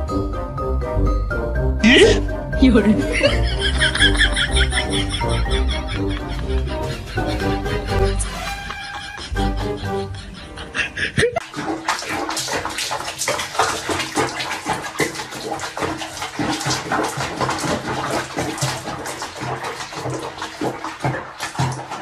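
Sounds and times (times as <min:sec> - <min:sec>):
water sloshing in a bathtub: 0:01.8 - 0:22.0.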